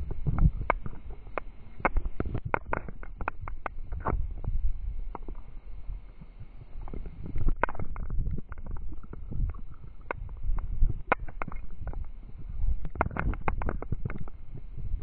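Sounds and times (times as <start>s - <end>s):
wind buffeting microphone: 0.0s - 6.0s, 6.6s - 15.0s.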